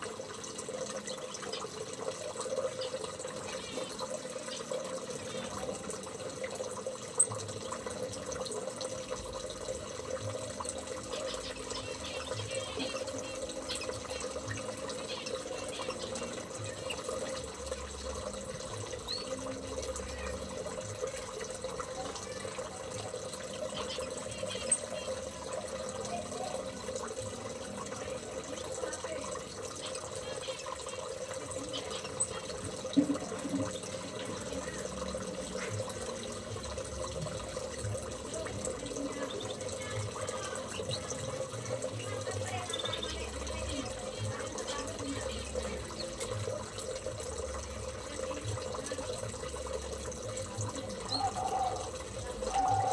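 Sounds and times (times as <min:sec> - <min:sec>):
running water trickling: 0:00.0 - 0:52.9.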